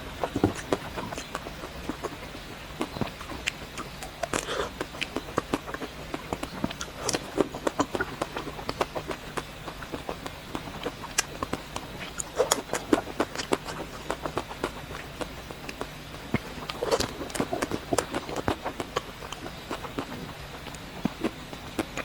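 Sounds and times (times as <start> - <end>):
mouth clicks and crunches eating: 0.0 - 22.0.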